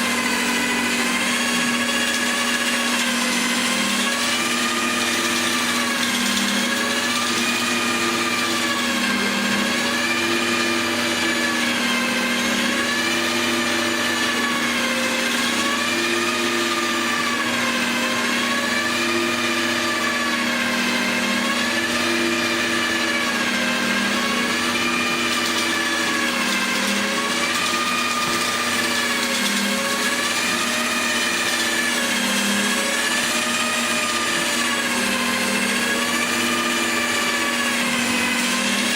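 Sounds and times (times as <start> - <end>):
electric drill humming: 0.0 - 38.9.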